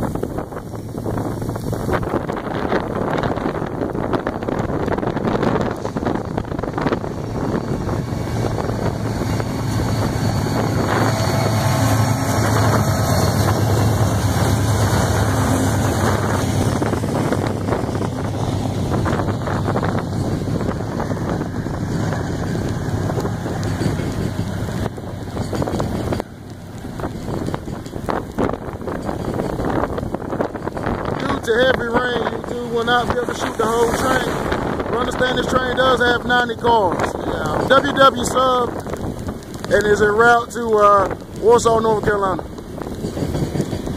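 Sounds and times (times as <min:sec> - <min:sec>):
heavy rain: 0:00.0 - 0:43.9
train wheels rumbling on rail: 0:00.0 - 0:43.9
wind on microphone: 0:00.0 - 0:43.9.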